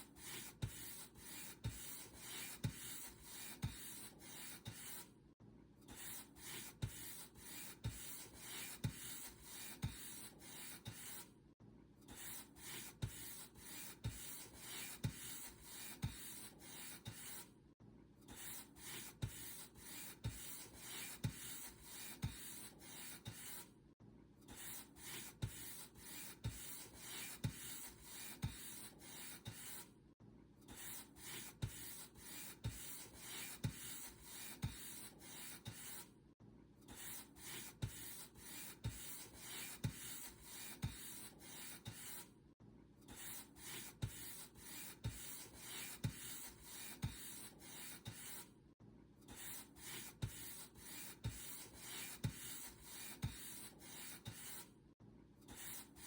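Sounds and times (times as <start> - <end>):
paint brush strokes on a surface: 0.1 - 5.1, 5.9 - 11.3, 12.1 - 17.5, 18.3 - 23.7, 24.5 - 29.9, 30.7 - 36.1, 36.9 - 42.3, 43.1 - 48.5, 49.3 - 54.7, 55.5 - 56.0.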